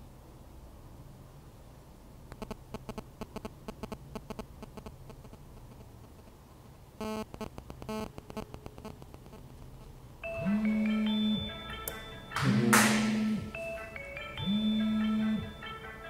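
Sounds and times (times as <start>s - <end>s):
phone interference buzzing: 2.3s - 6.4s, 7.0s - 16.0s.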